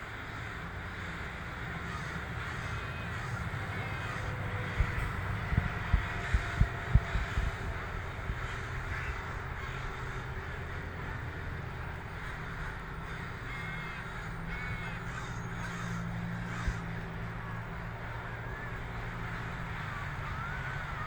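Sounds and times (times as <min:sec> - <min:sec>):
crows cawing: 0:00.0 - 0:21.0.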